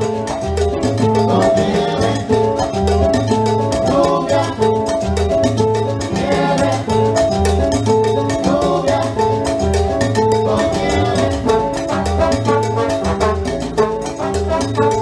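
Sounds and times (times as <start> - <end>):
conga drumming: 0.0 - 15.0
salsa band playing: 0.0 - 15.0.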